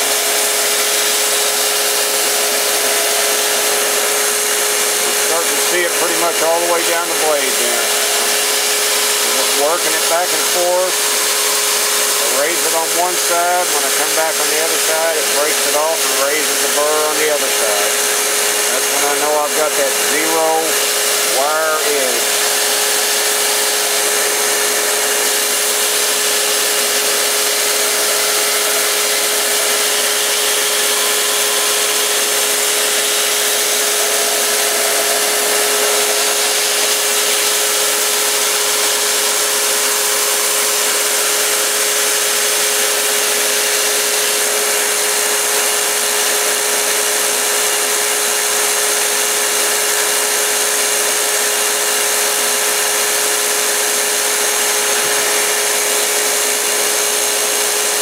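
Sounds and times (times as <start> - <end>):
belt grinder grinding hiss: 0.0 - 58.0
grinder motor hum: 0.0 - 58.0.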